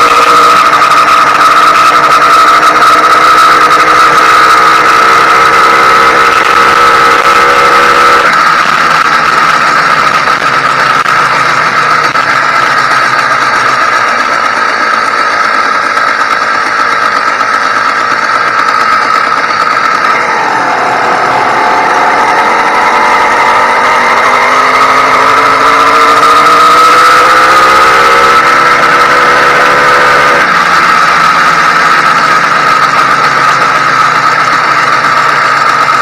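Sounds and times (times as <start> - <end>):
two-stroke engine running: 0.0 - 36.0.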